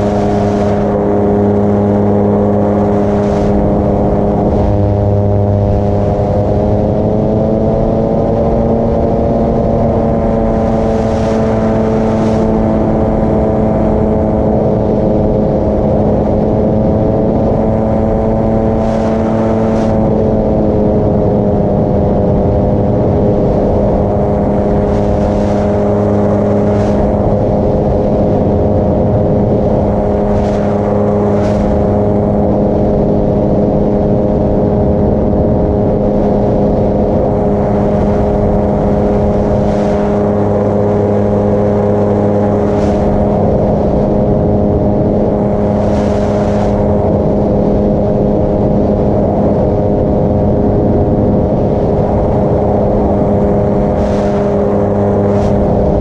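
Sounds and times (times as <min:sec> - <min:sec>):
paramotor engine droning: 0:00.0 - 0:56.0.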